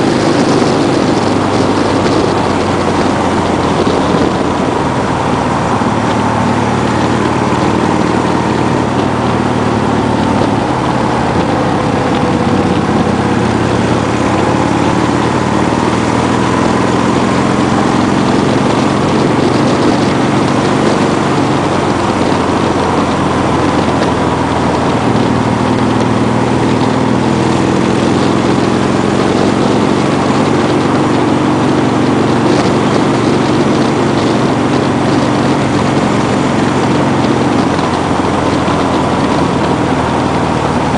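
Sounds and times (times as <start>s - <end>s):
vehicle engine running steadily: 0.0s - 40.9s
wind and road noise: 0.0s - 40.9s.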